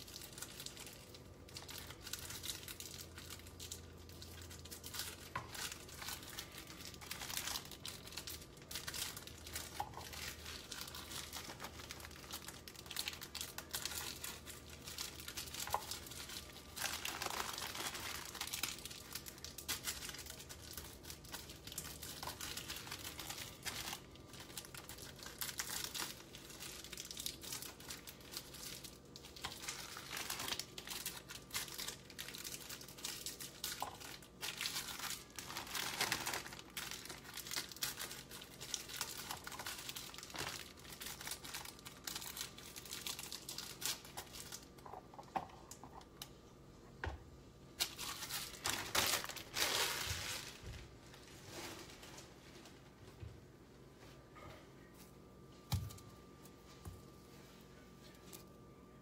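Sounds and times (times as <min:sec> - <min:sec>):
plastic wrapper crinkling: 0:00.0 - 0:46.4, 0:47.7 - 0:53.2.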